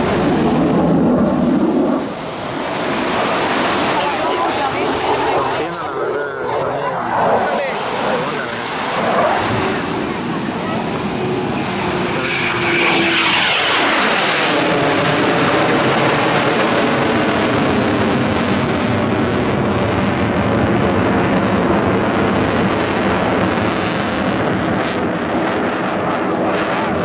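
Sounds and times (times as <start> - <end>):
jet passing with rumble: 0.0 - 27.0.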